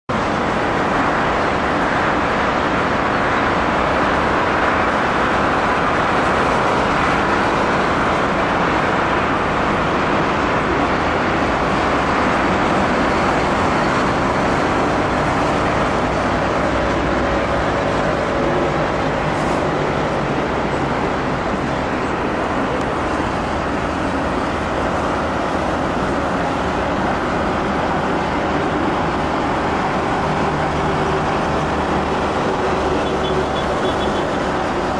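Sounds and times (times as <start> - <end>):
road traffic and city noise: 0.0 - 34.9.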